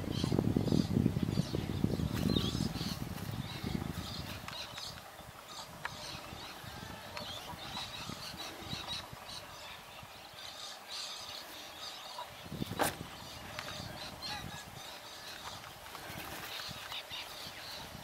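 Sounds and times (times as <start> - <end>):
birds calling: 0.0 - 18.0
wind rumble on microphone: 0.0 - 18.0.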